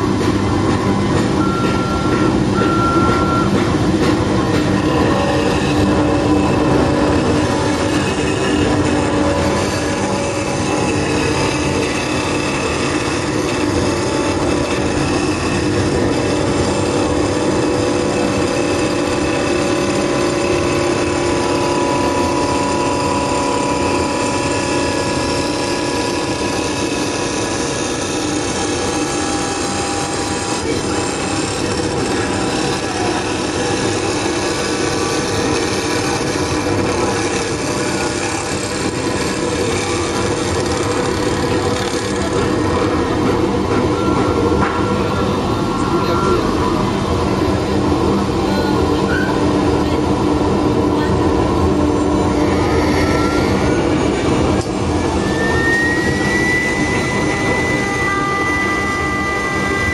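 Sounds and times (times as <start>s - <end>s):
wood lathe cutting wood: 0.0s - 44.8s, 51.6s - 59.9s
motor whine: 0.0s - 59.9s.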